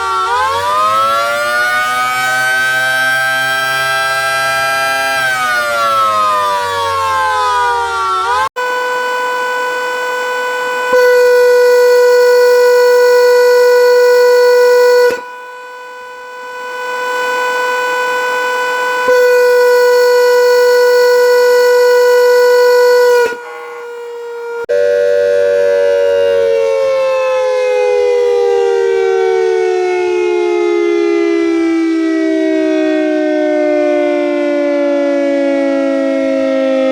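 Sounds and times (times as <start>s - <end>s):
air raid siren steady tone: 0.0s - 36.9s
siren winding down: 0.0s - 36.9s.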